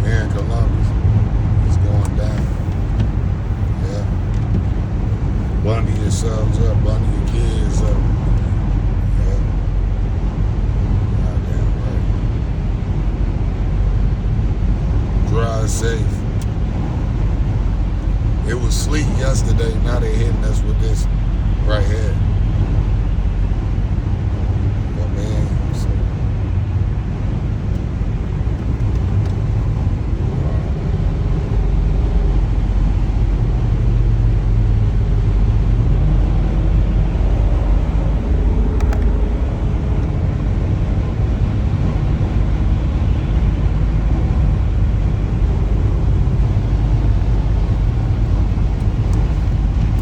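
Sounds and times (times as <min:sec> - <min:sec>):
vehicle engine and tyre noise: 0:00.0 - 0:50.0.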